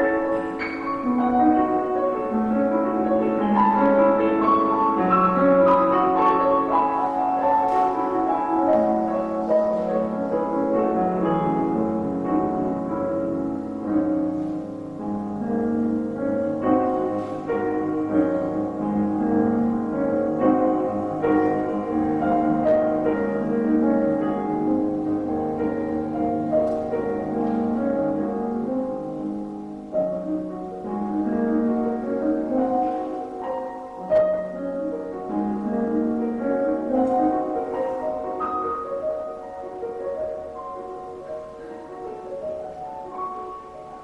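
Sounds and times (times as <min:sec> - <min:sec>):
solo piano: 0:00.0 - 0:44.0.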